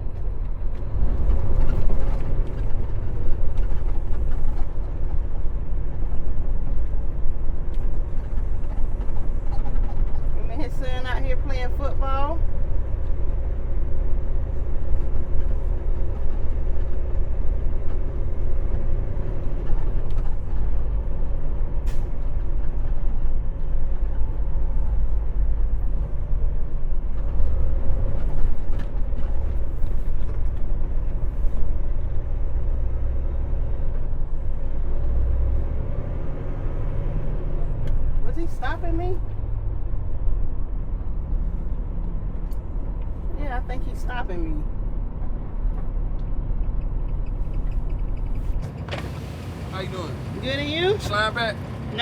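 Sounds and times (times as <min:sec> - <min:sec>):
diesel truck engine rumbling: 0:00.0 - 0:52.0.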